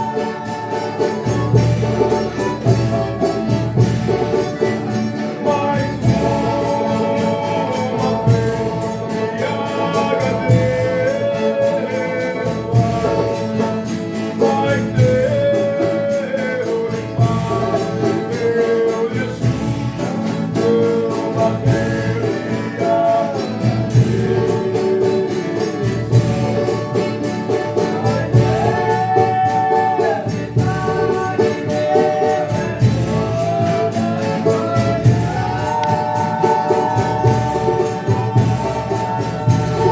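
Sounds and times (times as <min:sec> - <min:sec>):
group singing devotional song: 0:00.0 - 0:39.9
tambourine jingles: 0:00.0 - 0:39.9.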